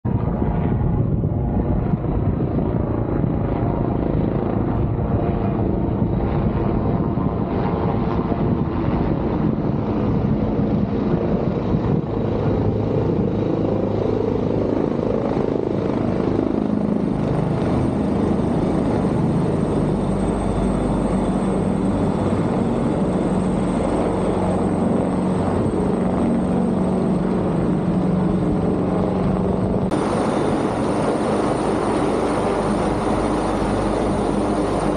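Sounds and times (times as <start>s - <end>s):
helicopter rotor and engine drone: 0.1s - 34.9s.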